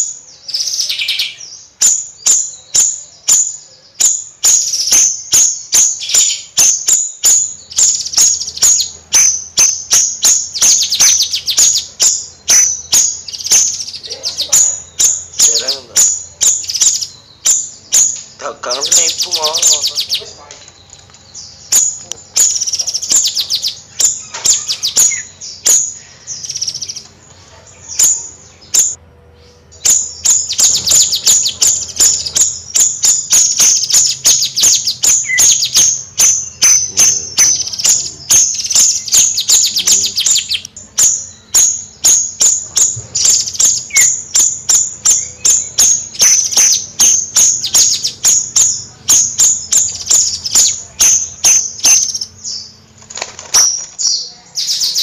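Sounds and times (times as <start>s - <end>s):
songbird chattering: 0.0s - 55.0s.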